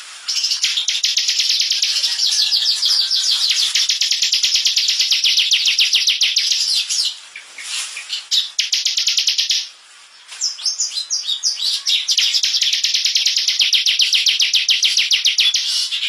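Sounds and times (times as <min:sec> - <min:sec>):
bird chirps: 0:00.2 - 0:16.0
bird singing rapid trill: 0:00.3 - 0:09.7, 0:10.4 - 0:16.0.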